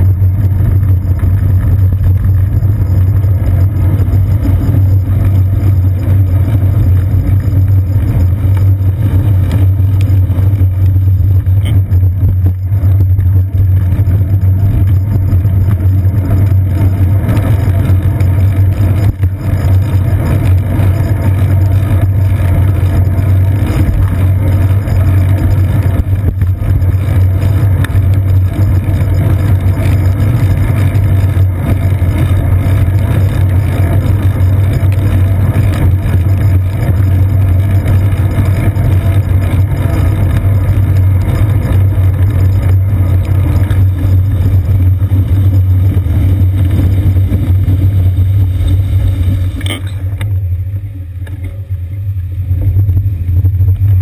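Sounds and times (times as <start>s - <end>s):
road vibration rumble: 0.0s - 54.0s.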